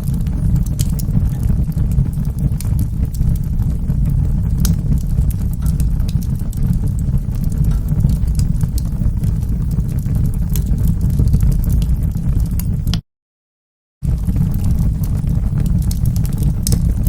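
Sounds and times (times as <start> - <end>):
fire pops: 0.0 - 13.0, 14.0 - 17.0
low rumble of flames: 0.0 - 13.0, 14.0 - 17.0
wood fire crackling: 0.0 - 13.0, 14.0 - 17.0.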